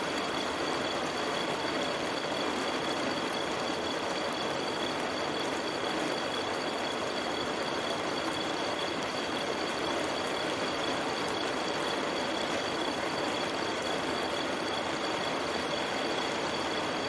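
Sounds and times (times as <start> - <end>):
steady rain in a forest: 0.1 - 17.0.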